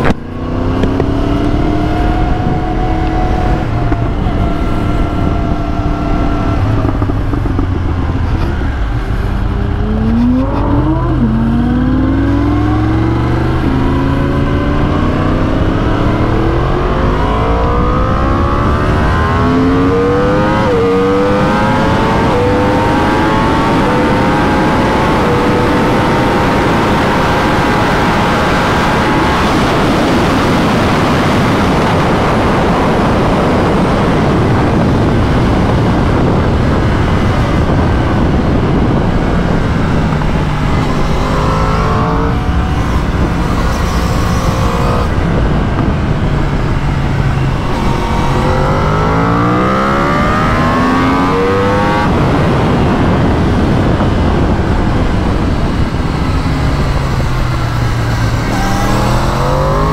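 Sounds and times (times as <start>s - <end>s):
heavy wind rush: 0.0s - 59.9s
motorcycle engine accelerating hard: 0.0s - 59.9s.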